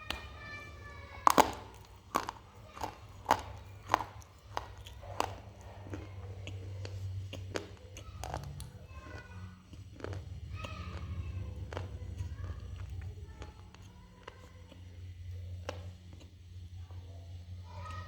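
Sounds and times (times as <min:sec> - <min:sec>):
dry crunchy chewing: 0:00.0 - 0:18.0.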